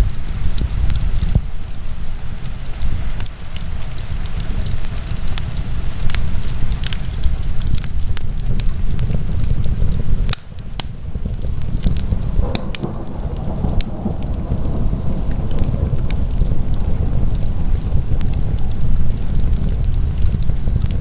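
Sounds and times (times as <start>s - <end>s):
fire crackles and pops: 0.0s - 21.0s
low rumble of fire: 0.0s - 21.0s.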